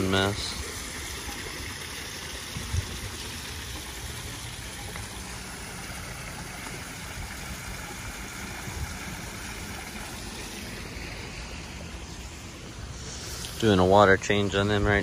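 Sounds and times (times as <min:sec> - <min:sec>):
waterfall splashing into pond: 0:00.0 - 0:15.0.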